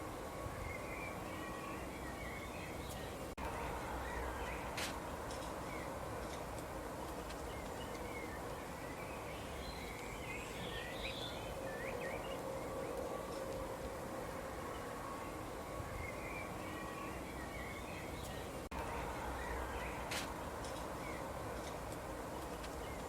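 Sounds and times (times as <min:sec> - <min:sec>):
outdoor background hiss: 0:00.0 - 0:23.0
songbirds chirping: 0:00.0 - 0:23.0.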